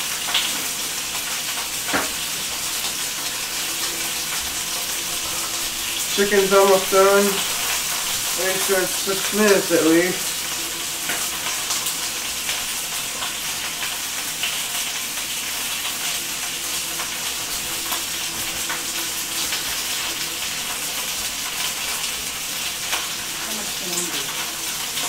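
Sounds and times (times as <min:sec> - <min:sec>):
frying pops and crackles: 0:00.0 - 0:25.0
meat sizzling in a skillet: 0:00.0 - 0:25.0.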